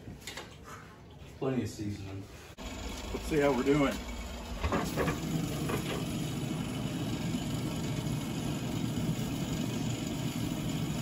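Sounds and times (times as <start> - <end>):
grill fan humming: 1.4 - 11.0.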